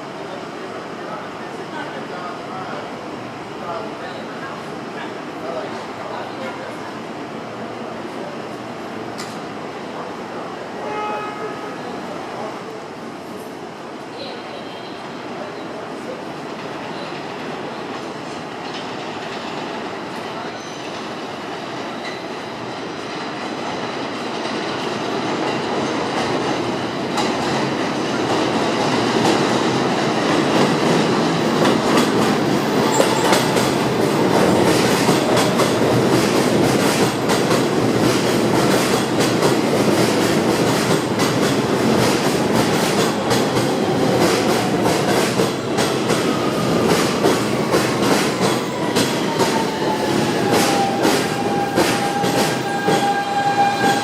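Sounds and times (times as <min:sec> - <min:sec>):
subway train approaching: 0:00.0 - 0:54.0.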